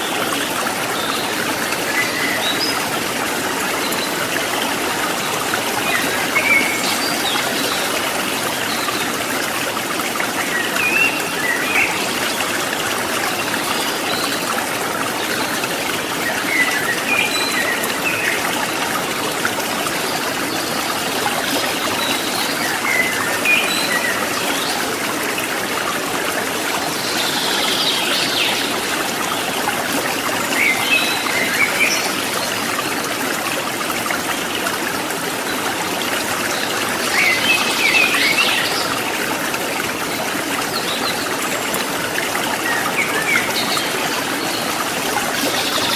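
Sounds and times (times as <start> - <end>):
stream water babbling: 0.0 - 45.9.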